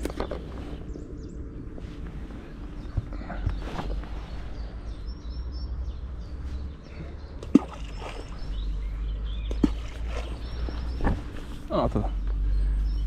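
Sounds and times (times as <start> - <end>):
small bird chirping: 2.4 - 13.0.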